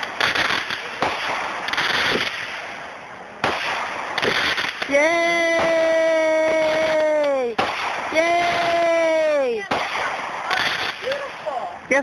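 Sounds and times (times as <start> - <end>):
fireworks bangs: 0.0 - 12.0
fireworks crackling and hissing: 0.0 - 12.0.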